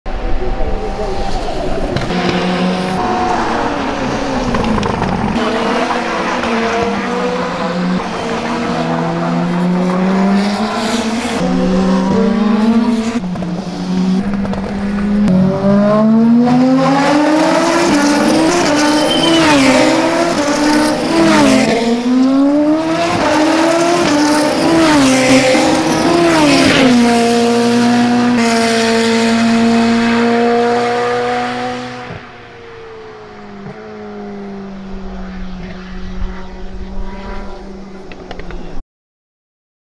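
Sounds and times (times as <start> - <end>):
race car engines revving: 0.1 - 38.8.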